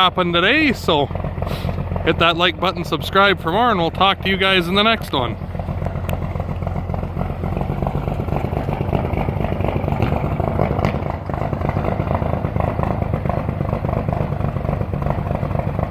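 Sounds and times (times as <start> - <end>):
diesel engine running roughly: 0.0 - 15.9.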